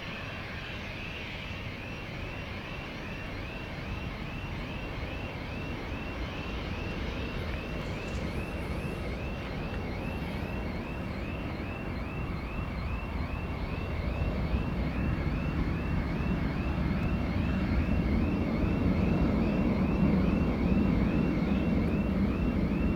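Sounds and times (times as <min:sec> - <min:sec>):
jet engines rumbling: 0:00.0 - 0:22.9.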